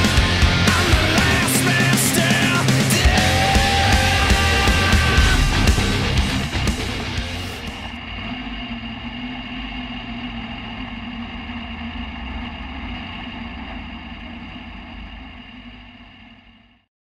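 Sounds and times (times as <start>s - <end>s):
race car engine idling: 0.0s - 16.6s.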